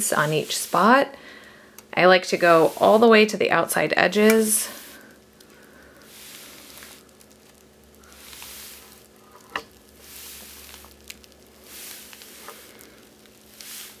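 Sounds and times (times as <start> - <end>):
steam iron hissing: 0.0 - 14.0.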